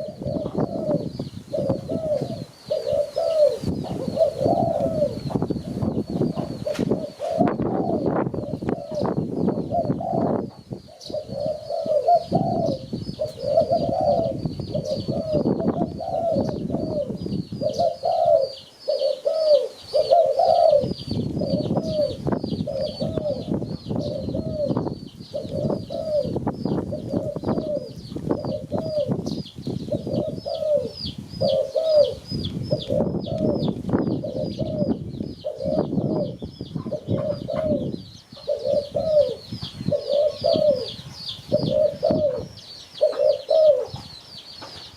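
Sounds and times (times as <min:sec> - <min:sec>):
dove cooing: 0:00.0 - 0:44.2.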